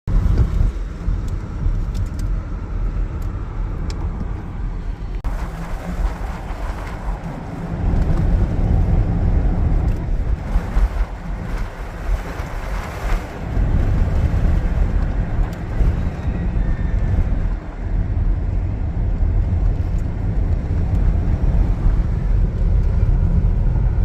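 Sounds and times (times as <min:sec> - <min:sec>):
car road rumble: 0:00.1 - 0:24.0.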